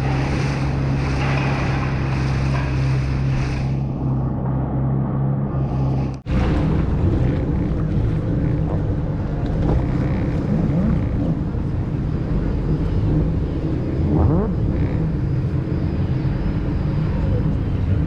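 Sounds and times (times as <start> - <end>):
motorboat engine running: 0.0 - 18.0.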